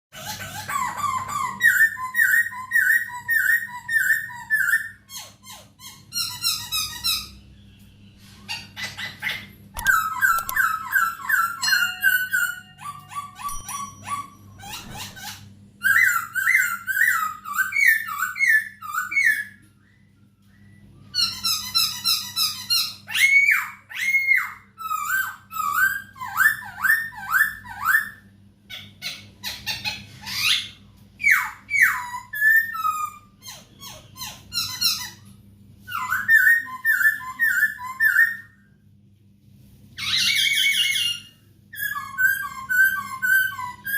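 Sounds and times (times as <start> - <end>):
faint steady hum: 0.2 - 43.9.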